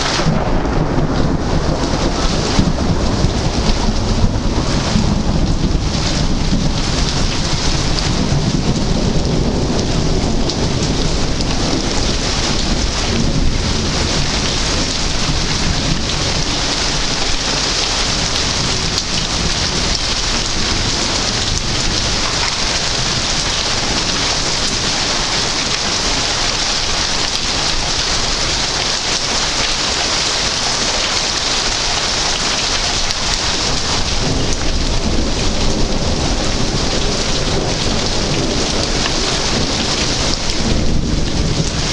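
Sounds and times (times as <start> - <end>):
heavy rain pouring: 0.0 - 41.9
low thunder rumbling: 0.0 - 41.9.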